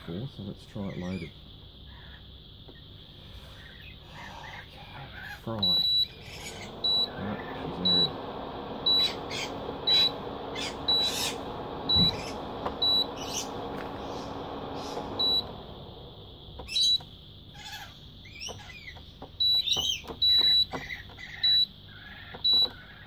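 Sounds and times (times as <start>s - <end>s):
cooling fan: 0.0s - 23.0s.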